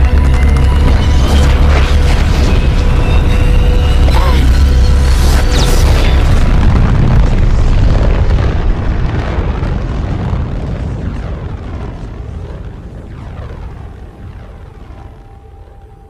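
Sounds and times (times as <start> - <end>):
deep energy blast boom: 0.0 - 15.3.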